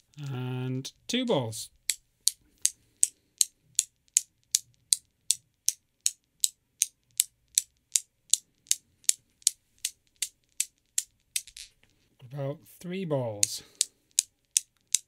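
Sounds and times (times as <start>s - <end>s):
metal balls clicking: 0.0s - 1.1s, 1.8s - 11.9s, 13.3s - 15.0s.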